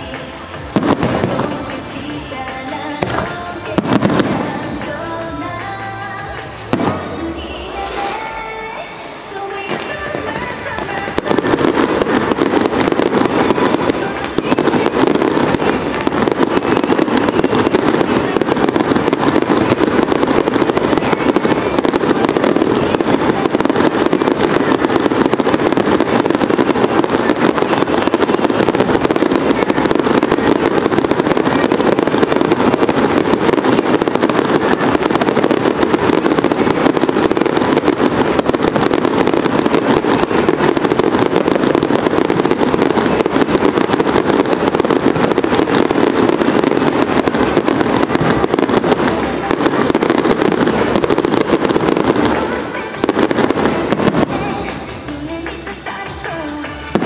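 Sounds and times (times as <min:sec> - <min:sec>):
fireworks crackle: 0:00.0 - 0:57.0.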